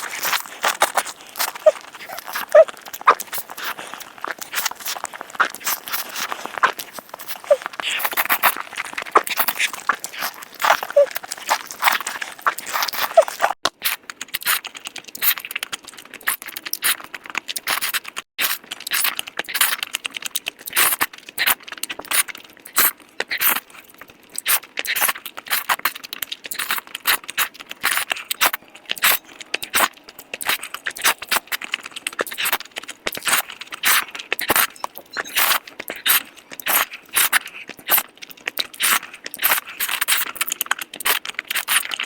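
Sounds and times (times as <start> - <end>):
crunchy chewing: 0.0 - 42.0.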